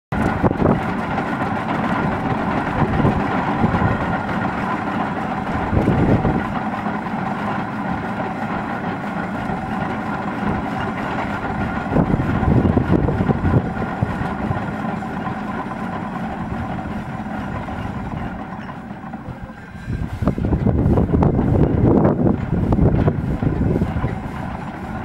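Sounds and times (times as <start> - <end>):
steam engine running: 0.1 - 25.0.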